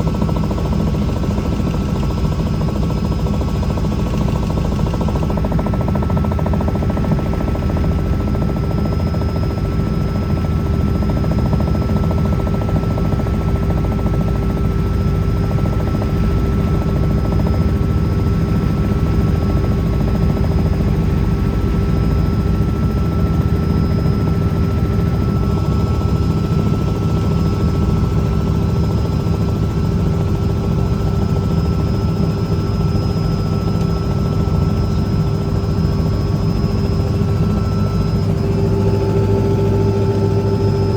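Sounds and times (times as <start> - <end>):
helicopter rotor thrum: 0.0 - 40.9
helicopter whine: 0.0 - 40.9.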